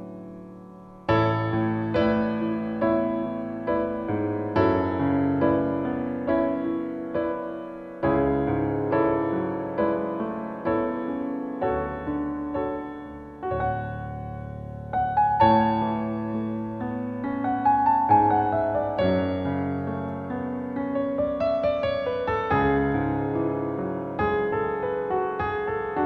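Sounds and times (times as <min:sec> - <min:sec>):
soft piano chords: 0:00.0 - 0:26.0.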